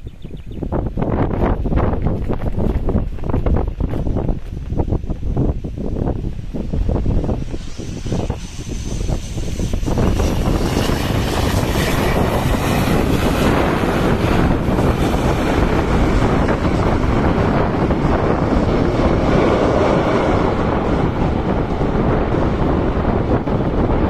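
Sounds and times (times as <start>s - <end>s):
turboprop airliner landing: 0.0s - 24.0s
wind buffeting microphone: 0.0s - 24.0s.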